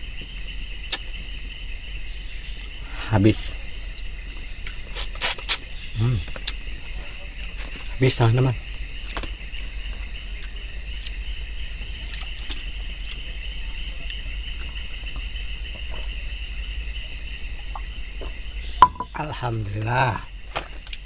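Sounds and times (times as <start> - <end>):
crickets and insects chirping: 0.0 - 21.0.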